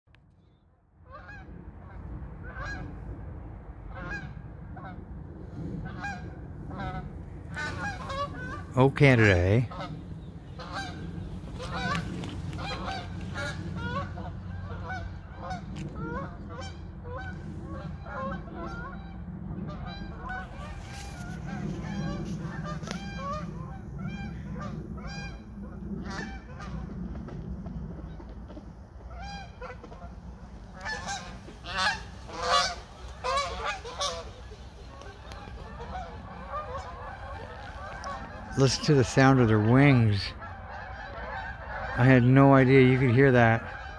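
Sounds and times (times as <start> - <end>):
geese honking: 1.0 - 2.9, 3.9 - 5.0, 5.8 - 27.2, 28.0 - 43.9.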